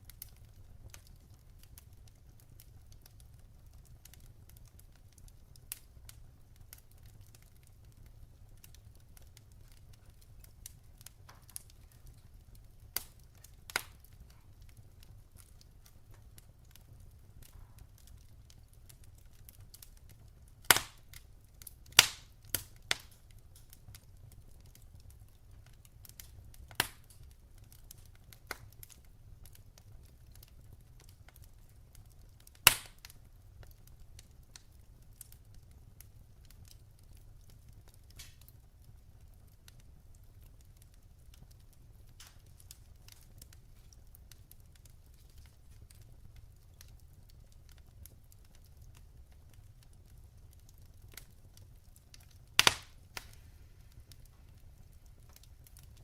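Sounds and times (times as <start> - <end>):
sharp pops from burning logs: 0.0 - 56.0
wood fire crackling: 0.0 - 56.0.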